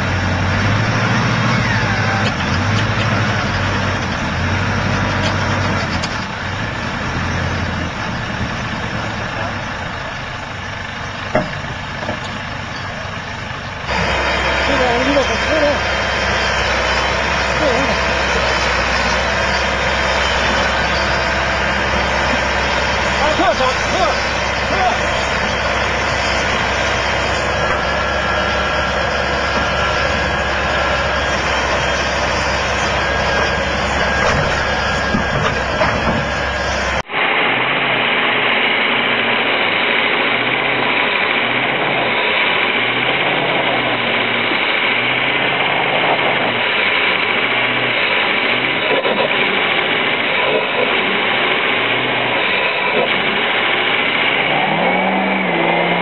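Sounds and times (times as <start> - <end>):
heavy diesel engines running: 0.0 - 56.0
pickup truck engine straining: 0.0 - 56.0
tyres spinning in snow: 0.0 - 56.0.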